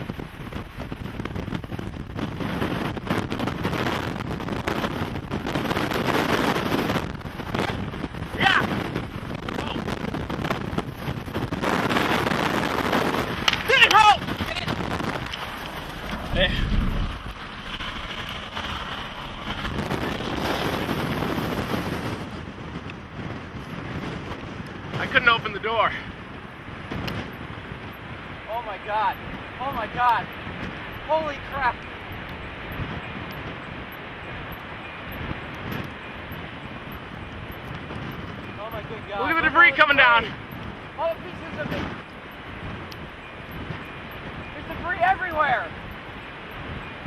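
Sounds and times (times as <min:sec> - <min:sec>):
storm wind buffeting microphone: 0:00.0 - 0:47.0.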